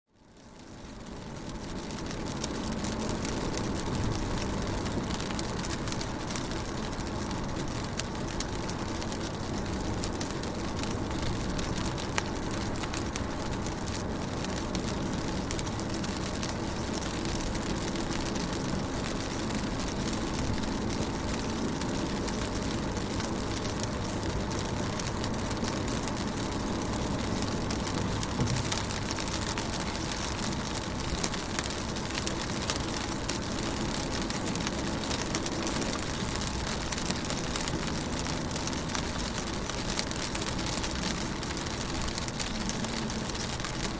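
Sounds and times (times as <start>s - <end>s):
rain pattering on a car: 0.1s - 43.9s.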